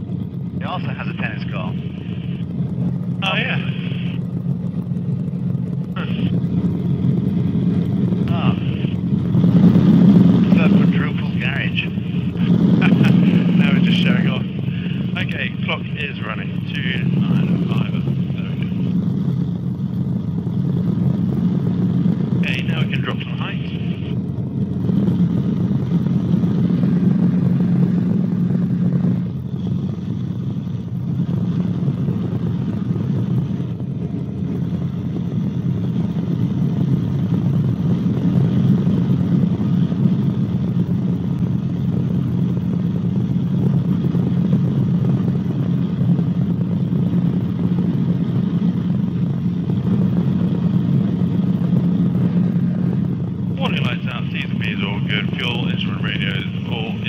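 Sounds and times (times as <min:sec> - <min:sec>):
helicopter engine and rotors droning: 0:00.0 - 0:57.0.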